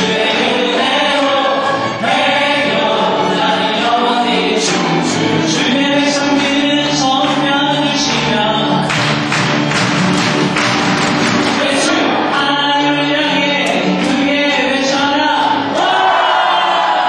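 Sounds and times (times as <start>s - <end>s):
worship team singing: 0.0s - 9.0s, 11.4s - 17.0s
instrumental accompaniment: 0.0s - 16.0s.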